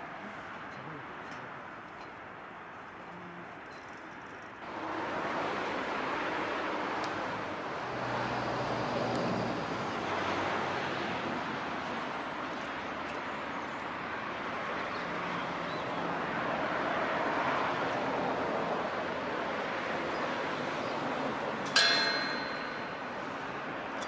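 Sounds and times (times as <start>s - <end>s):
outdoor background rush: 0.0s - 24.0s.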